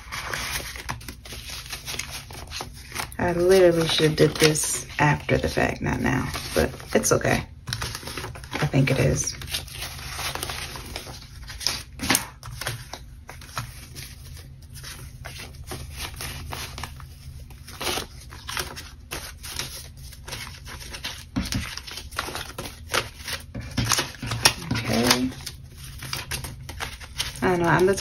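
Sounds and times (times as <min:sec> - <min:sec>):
banknotes rustling and flicking: 0:00.0 - 0:28.0.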